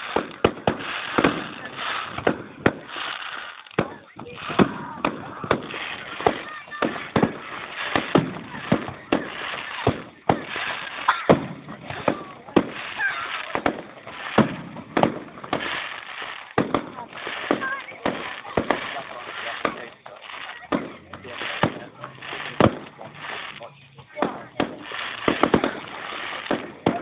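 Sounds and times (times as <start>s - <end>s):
firework shells bursting: 0.0s - 27.0s.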